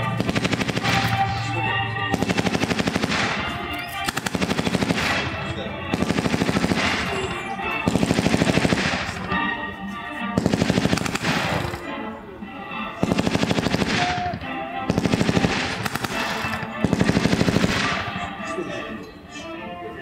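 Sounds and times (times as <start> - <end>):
machine-gun fire bursts: 0.0 - 9.4, 10.4 - 11.8, 13.0 - 18.4.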